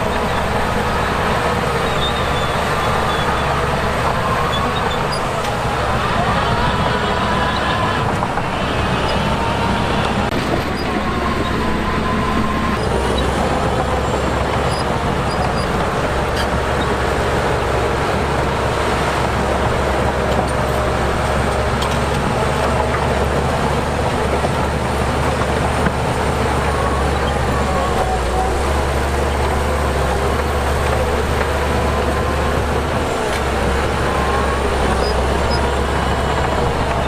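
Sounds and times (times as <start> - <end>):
heavy machinery diesel engine running: 0.0 - 37.0.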